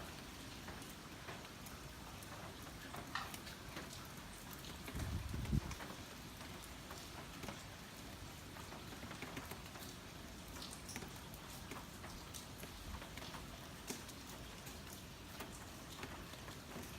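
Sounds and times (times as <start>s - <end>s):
steady heavy rain: 0.0s - 16.9s.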